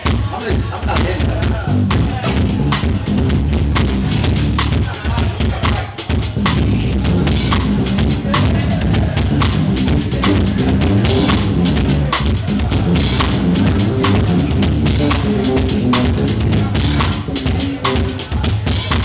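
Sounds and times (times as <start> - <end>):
drum kit playing a beat: 0.0 - 19.0
bass notes: 0.9 - 19.0.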